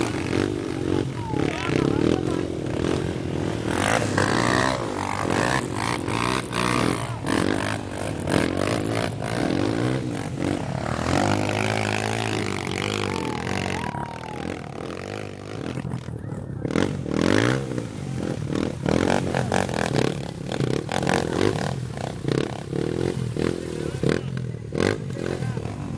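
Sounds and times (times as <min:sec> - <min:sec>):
motorcycle engines revving: 0:00.0 - 0:25.9.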